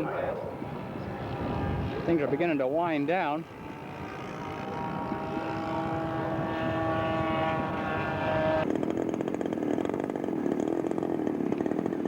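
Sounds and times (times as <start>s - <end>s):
model aircraft engine droning: 0.0s - 12.0s.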